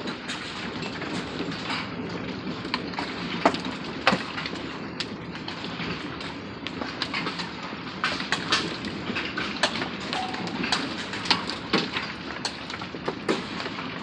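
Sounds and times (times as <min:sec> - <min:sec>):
hailstones striking hard surfaces: 0:00.0 - 0:14.0.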